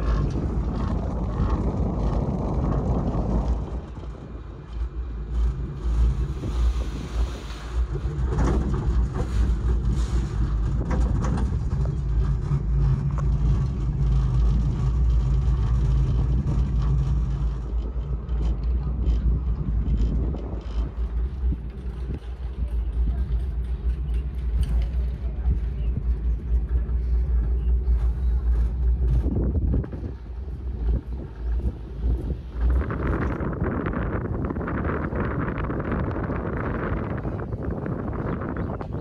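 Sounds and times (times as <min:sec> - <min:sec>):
cable car low rumble: 0:00.0 - 0:39.0
wind-like rushing noise: 0:00.0 - 0:39.0.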